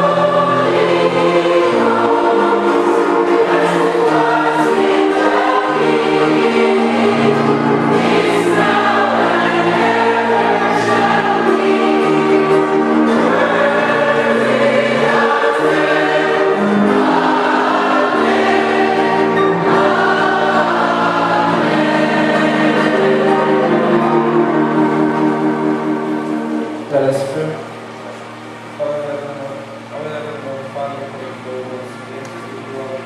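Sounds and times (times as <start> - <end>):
group singing a hymn: 0.0 - 28.7.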